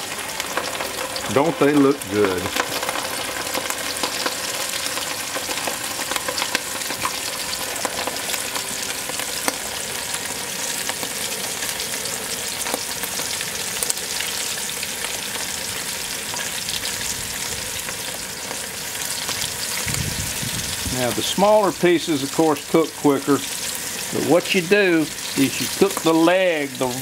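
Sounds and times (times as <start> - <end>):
food deep-frying in hot oil: 0.0 - 27.0.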